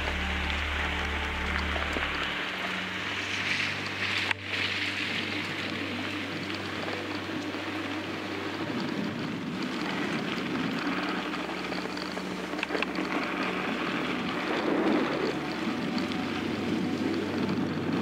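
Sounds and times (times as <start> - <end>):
bike clicks and rattles: 0.0 - 18.0
bike tyres rushing on gravel: 0.0 - 18.0.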